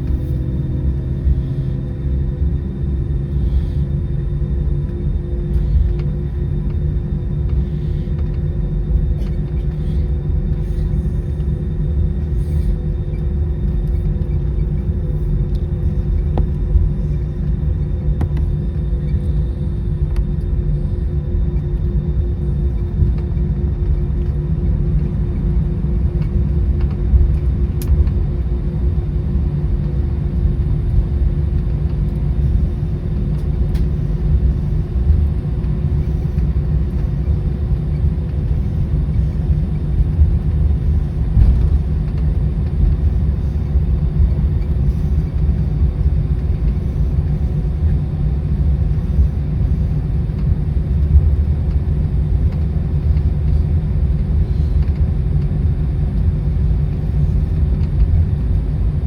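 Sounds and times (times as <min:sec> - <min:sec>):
airliner rumble while taxiing: 0:00.0 - 0:59.0
idling jet engines hum: 0:00.0 - 0:59.0.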